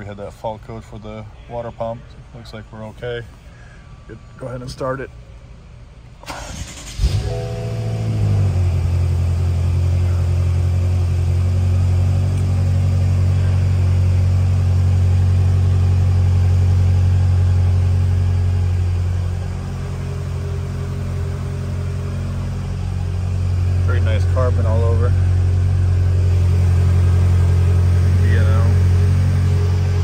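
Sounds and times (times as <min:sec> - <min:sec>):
car engine idling: 0:03.0 - 0:30.0.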